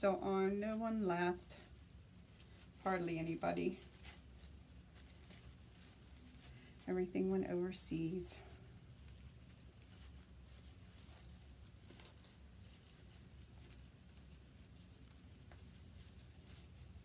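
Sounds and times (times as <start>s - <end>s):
ribbon clicks and rustles: 0.4s - 17.0s.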